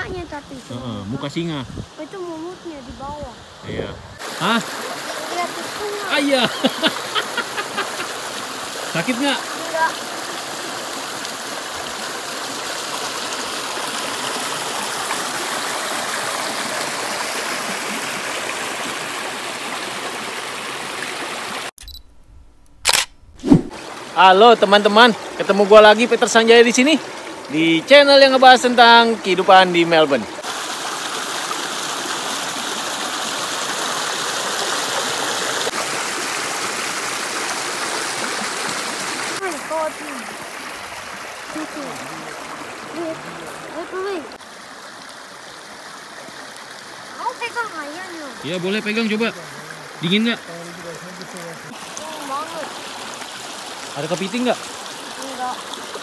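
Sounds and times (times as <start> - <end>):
creek water rushing over rocks: 0.0 - 21.7, 23.4 - 56.0
stream babbling over stones: 0.0 - 21.7, 23.4 - 56.0.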